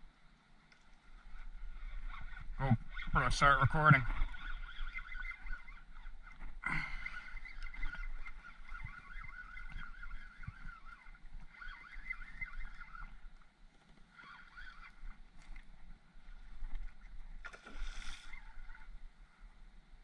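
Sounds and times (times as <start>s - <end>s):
fishing reel whirring: 0.8s - 19.2s.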